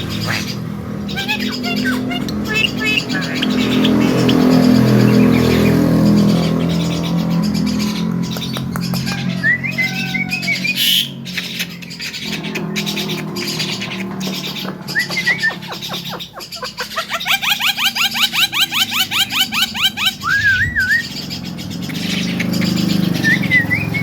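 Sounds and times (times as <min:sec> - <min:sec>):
myna squawks and chirps: 0:00.0 - 0:24.0.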